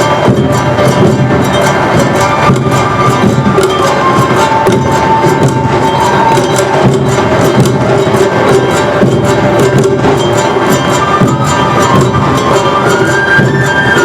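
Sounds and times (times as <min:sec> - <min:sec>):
bamboo flute melody: 0:00.0 - 0:14.0
drums and percussion rhythm: 0:00.0 - 0:14.0.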